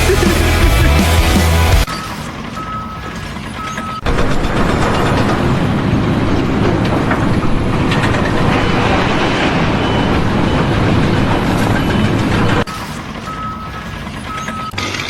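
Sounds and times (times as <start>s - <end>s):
heavy machinery rumbling: 0.0s - 15.0s.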